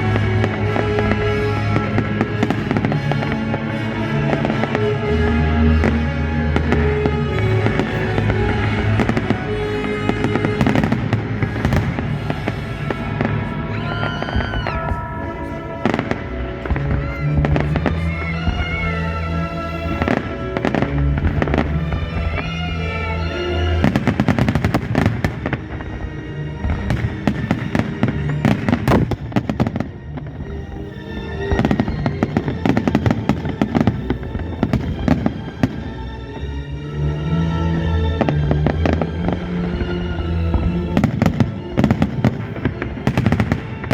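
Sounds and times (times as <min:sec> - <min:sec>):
fireworks bangs and crackles: 0:00.0 - 0:43.9
music playing: 0:00.0 - 0:43.9.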